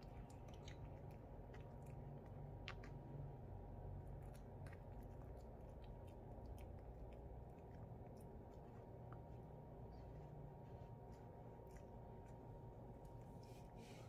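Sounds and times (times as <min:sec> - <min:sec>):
puppy teeth crunching treat: 0:00.0 - 0:13.4
low steady hum: 0:00.0 - 0:14.0.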